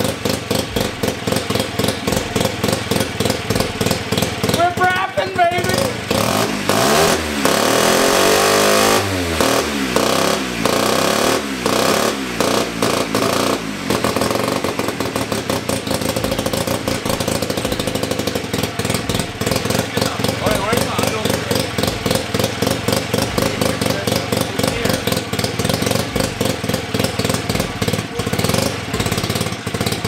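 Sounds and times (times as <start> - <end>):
rotary motorcycle engine revving: 0.0 - 30.0.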